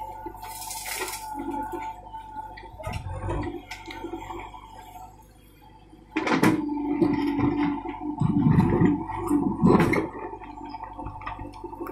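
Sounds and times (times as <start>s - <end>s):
backhoe diesel engine whining: 0.0s - 11.9s.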